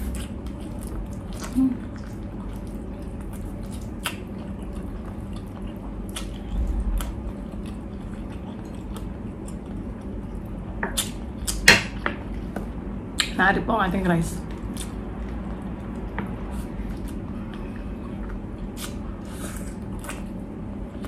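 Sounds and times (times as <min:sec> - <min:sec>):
close chewing of food: 0:00.0 - 0:13.3, 0:14.4 - 0:21.0.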